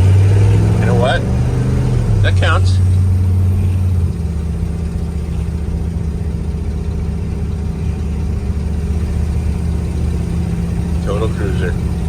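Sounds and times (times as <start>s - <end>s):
truck engine cruising: 0.0s - 12.0s.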